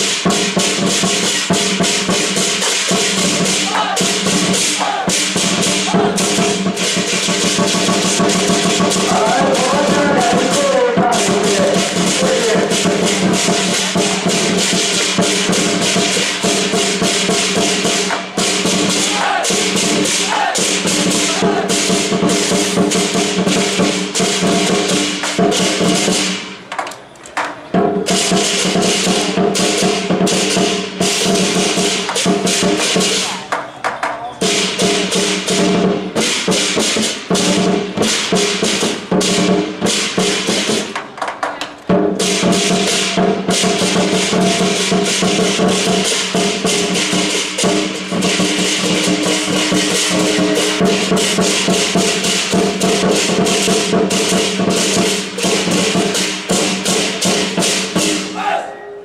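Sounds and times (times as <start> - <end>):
hand cymbals clashing: 0.0 - 26.6, 28.0 - 33.4, 42.2 - 58.4
drum beating: 0.0 - 58.6.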